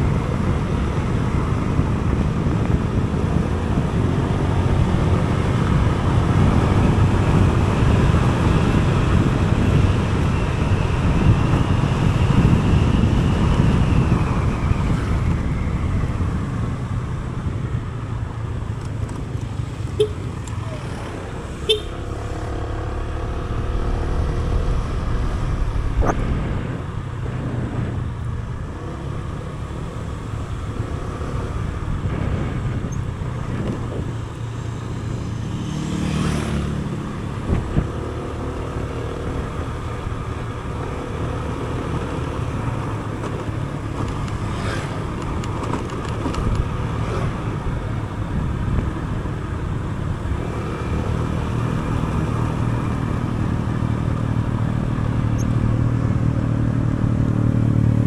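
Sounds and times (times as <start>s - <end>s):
road and wind rumble: 0.0s - 58.0s
vehicle engine running: 0.0s - 58.0s.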